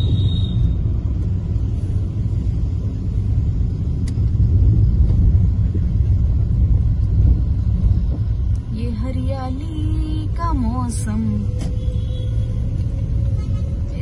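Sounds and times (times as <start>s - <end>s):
car driving on road: 0.0s - 14.0s.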